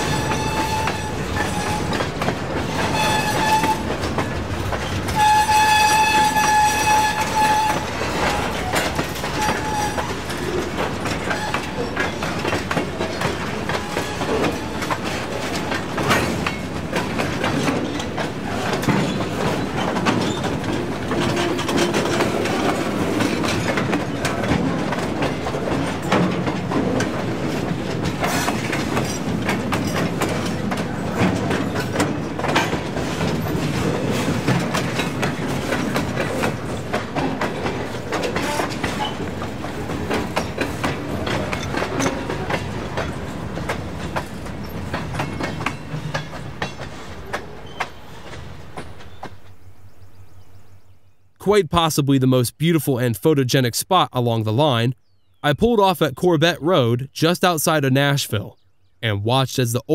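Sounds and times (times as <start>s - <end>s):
train wheels clacking over rail joints: 0.0s - 49.6s.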